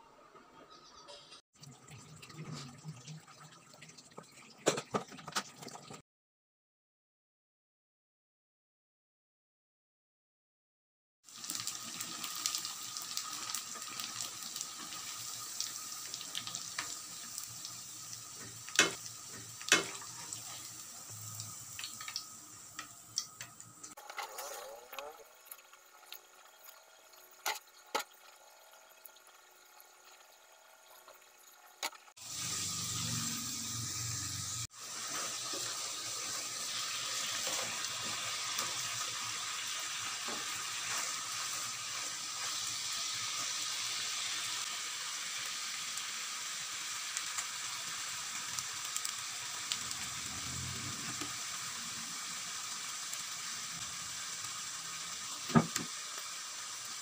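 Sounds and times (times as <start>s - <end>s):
food sizzling in a pan: 11.2s - 57.0s.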